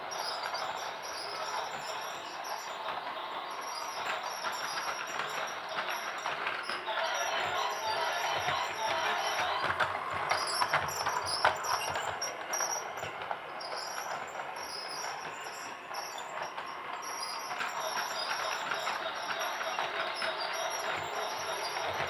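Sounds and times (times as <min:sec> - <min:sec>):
toy train rattling whir: 0:00.0 - 0:22.0.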